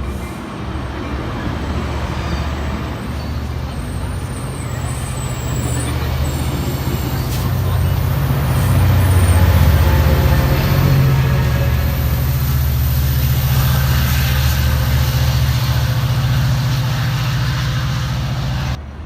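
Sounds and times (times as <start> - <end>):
diesel locomotive engine throbbing: 0.0 - 19.0.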